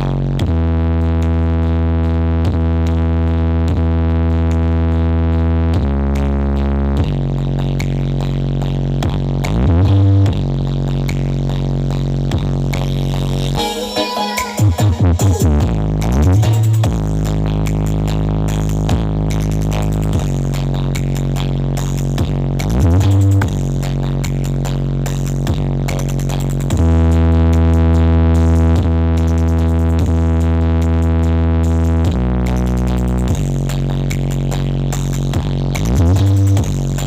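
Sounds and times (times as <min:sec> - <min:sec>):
bass sweep: 0:00.0 - 0:37.0
electronic dance music: 0:07.0 - 0:37.0.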